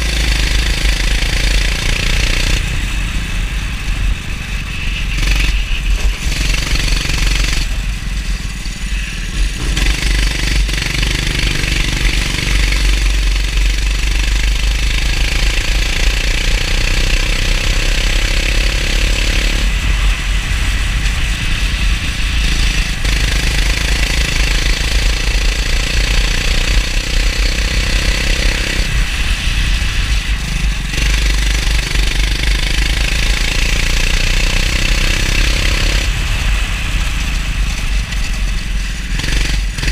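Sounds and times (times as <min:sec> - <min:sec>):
go-kart engine racing: 0:00.0 - 0:39.9
wind: 0:00.0 - 0:39.9.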